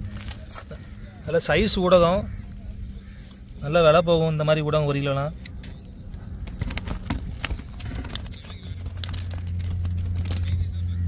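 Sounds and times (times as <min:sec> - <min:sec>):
gravel clicks and crackles: 0:00.0 - 0:11.0
vehicle hum on bridge: 0:00.0 - 0:11.0.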